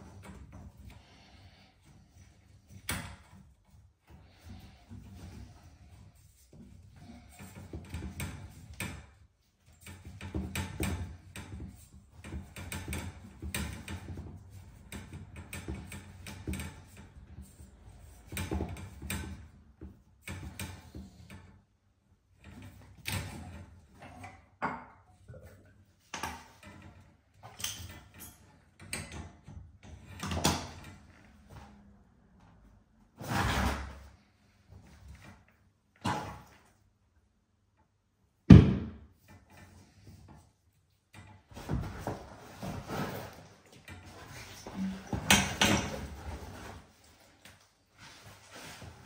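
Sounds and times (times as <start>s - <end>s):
copper pipes clicking and knocking: 1.8s - 21.7s, 22.3s - 31.2s, 38.5s - 49.0s.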